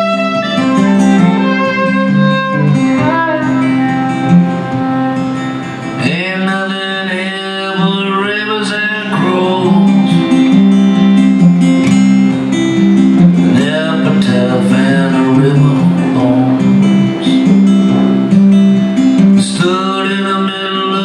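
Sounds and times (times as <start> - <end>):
fiddle melody: 0.0 - 20.4
strummed acoustic guitars: 0.0 - 21.0.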